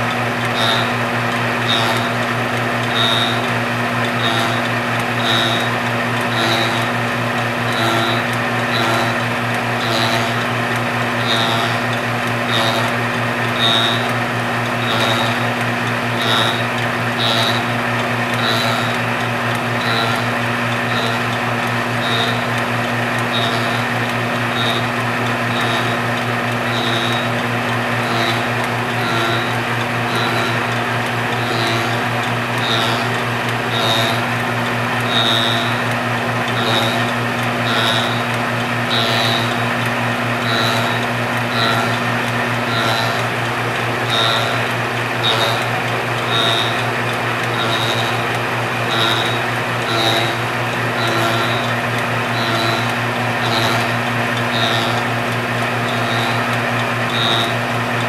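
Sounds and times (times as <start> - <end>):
cutter biting into wood: 0.0 - 1.0, 1.6 - 2.2, 4.2 - 6.9, 7.6 - 10.5, 11.2 - 14.1, 14.8 - 19.0, 22.0 - 22.6, 23.3 - 34.3, 36.5 - 55.2, 55.8 - 57.7
lathe motor hum: 0.0 - 58.0.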